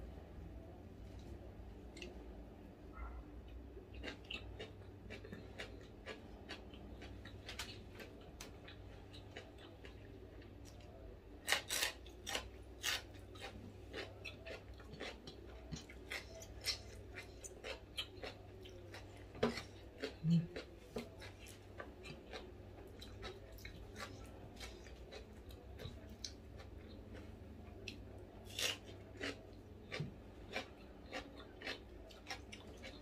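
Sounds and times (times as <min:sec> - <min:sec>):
chewing and crunching food: 0:00.6 - 0:33.0.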